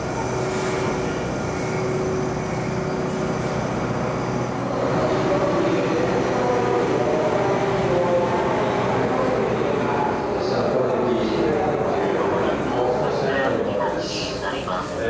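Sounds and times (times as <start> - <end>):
train mechanical drone: 0.0 - 15.0.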